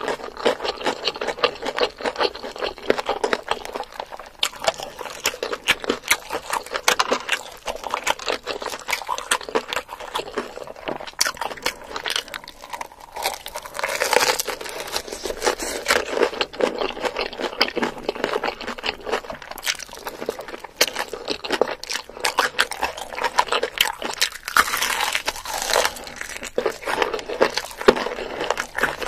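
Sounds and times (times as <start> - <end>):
crunching of fried chicken: 0.0 - 29.0.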